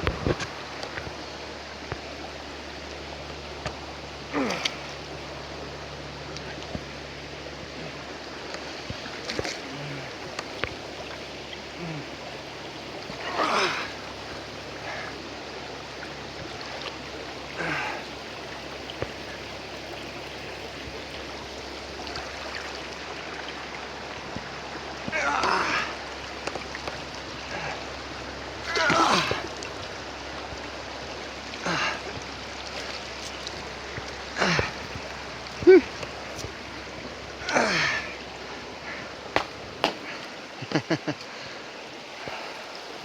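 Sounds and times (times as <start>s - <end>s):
creek water rushing over rocks: 0.0s - 43.0s
water splashes: 0.0s - 43.0s.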